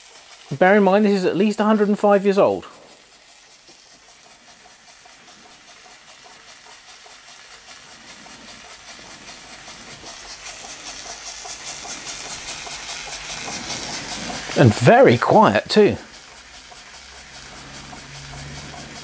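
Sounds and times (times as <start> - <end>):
steam hiss: 0.0 - 19.0
toy steam engine exhaust puffs: 0.0 - 19.0.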